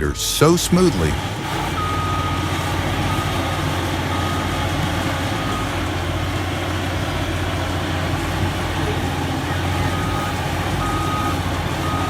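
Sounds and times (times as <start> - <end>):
back-up alarm beeping: 0.0 - 12.0
diesel engine running: 0.0 - 12.0.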